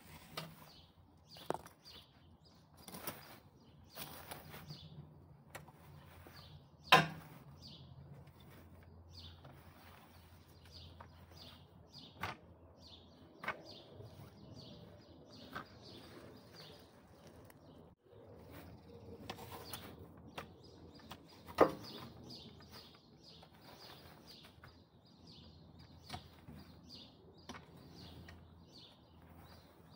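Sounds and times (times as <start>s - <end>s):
bird chirping: 0.4s - 29.9s.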